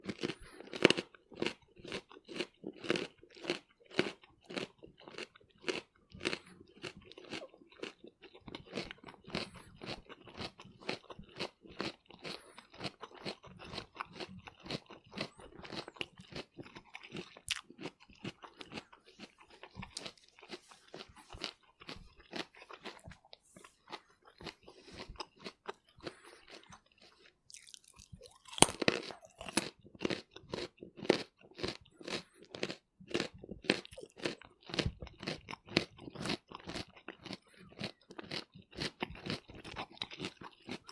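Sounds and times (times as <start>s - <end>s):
person crunching raw carrot: 0.0s - 40.9s.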